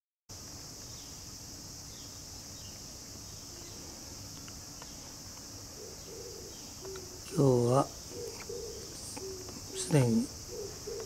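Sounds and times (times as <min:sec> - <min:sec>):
insects droning: 0:00.3 - 0:11.0.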